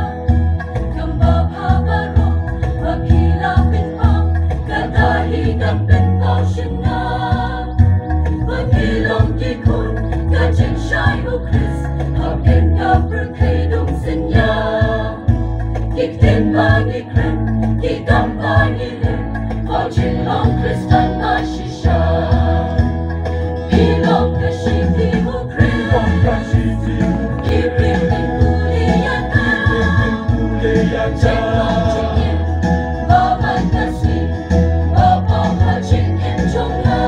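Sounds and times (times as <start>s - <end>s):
mixed choir singing: 0.0s - 37.0s.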